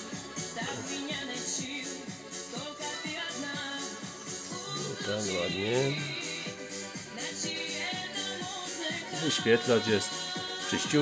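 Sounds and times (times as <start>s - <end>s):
music from a cassette deck: 0.0s - 11.0s.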